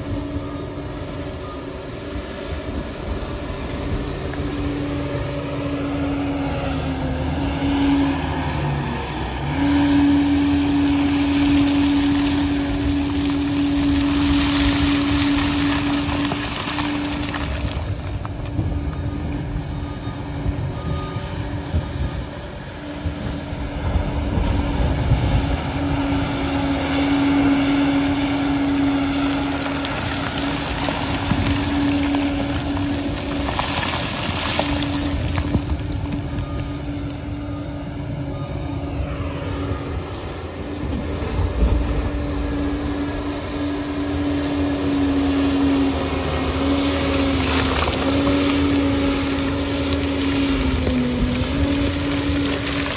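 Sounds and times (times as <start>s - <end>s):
bulldozer diesel engine under load: 0.0s - 52.9s.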